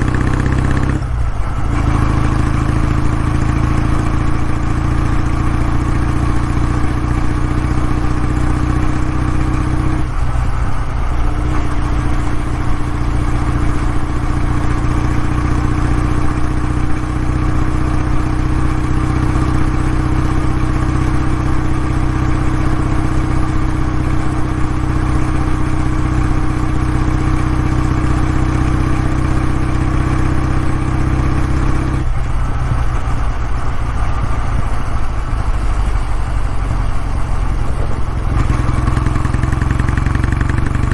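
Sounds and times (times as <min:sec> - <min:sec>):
motorcycle engine and exhaust running: 0:00.0 - 0:40.9.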